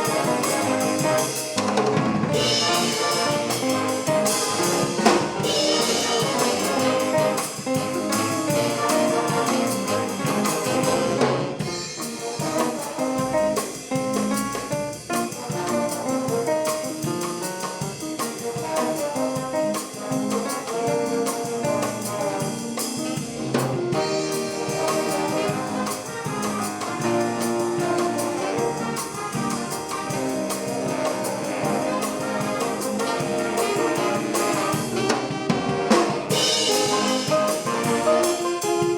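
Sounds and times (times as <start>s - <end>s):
big band jazz playing: 0.0s - 38.9s
drum kit: 0.0s - 38.9s
trumpets and trombones: 0.0s - 38.9s.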